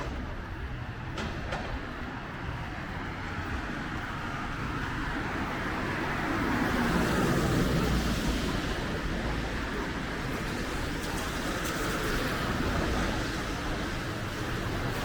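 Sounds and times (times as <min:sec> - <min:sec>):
vehicle engine rumble: 0:00.0 - 0:15.0
tyres hissing on wet road: 0:02.9 - 0:15.0.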